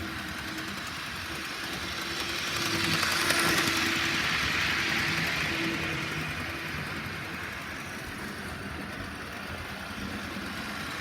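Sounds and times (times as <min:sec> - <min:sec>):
train rail noise and rumble: 0:00.0 - 0:11.0.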